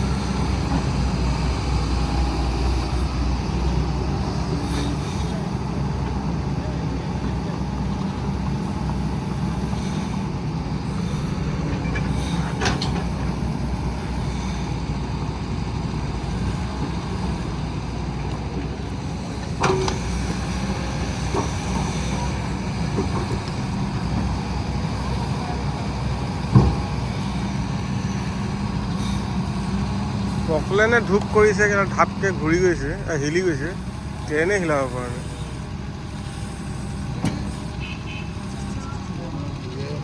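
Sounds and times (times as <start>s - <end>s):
heavy vehicle engine droning: 0.0s - 40.0s.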